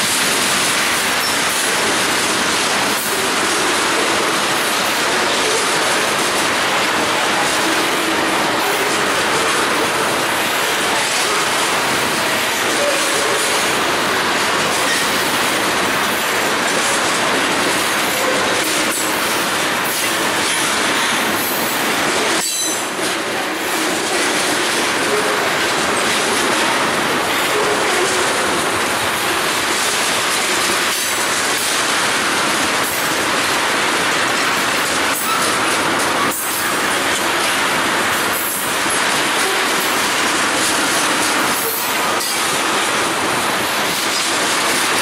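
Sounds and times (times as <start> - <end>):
freight train rolling past: 0.0 - 45.0
wheels clicking over rail joints: 0.0 - 45.0.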